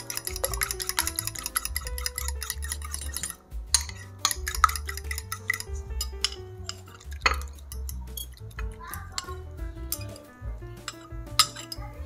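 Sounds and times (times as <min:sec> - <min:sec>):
music with plucked melody: 0:00.0 - 0:12.0
utensils clinking on dish: 0:00.0 - 0:12.0.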